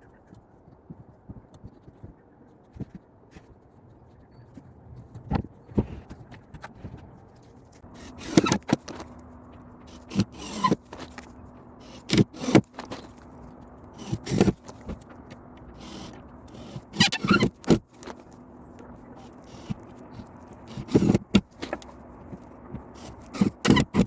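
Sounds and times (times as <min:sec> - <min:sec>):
faint steady hum: 0:00.0 - 0:24.0
building work knocks and clatters: 0:04.5 - 0:24.0.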